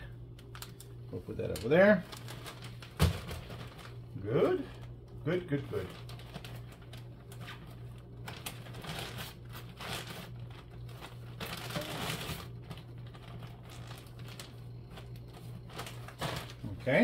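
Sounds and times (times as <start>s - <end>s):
steady low hum: 0.0s - 17.0s
plastic packaging crinkling: 0.3s - 17.0s.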